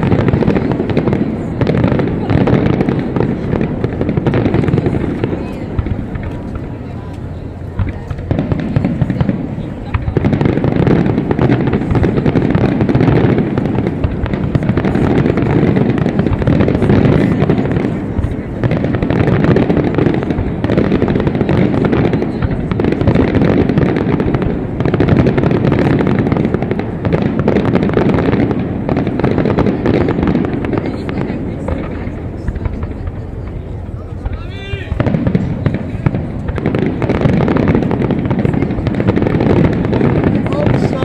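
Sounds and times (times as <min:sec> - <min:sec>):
fireworks bangs rumbling: 0:00.0 - 0:41.0.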